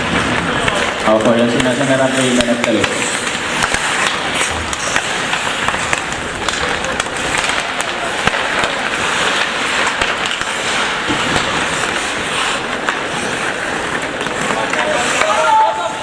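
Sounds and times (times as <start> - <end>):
skates scraping on ice: 0.0 - 16.0
sticks and puck clacking: 0.0 - 16.0.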